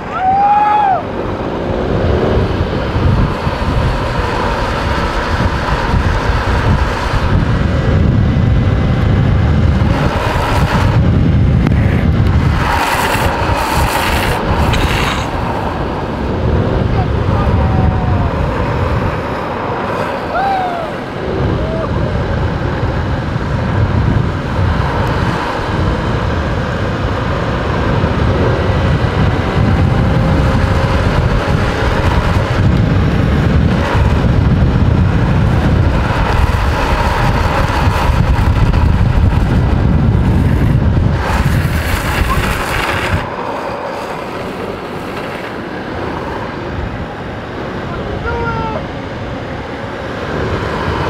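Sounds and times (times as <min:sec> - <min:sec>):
low road rumble: 0:00.0 - 0:51.0
wind buffeting microphone: 0:00.0 - 0:51.0.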